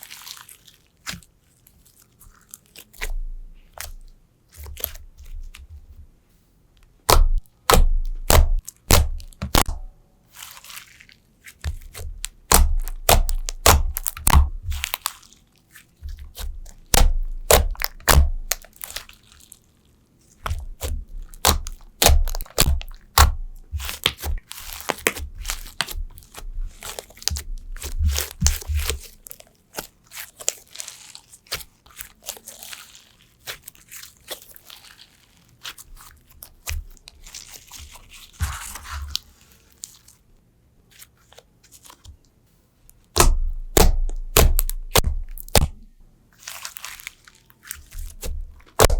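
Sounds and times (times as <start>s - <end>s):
slime crackling and popping: 0.0s - 5.7s, 7.0s - 19.7s, 20.3s - 40.2s, 43.1s - 48.9s.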